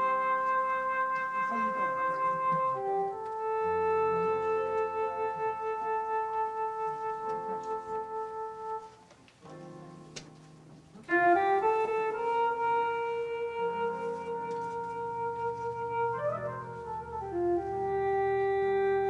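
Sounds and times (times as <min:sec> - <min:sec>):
slow keyboard music: 0:00.0 - 0:19.0.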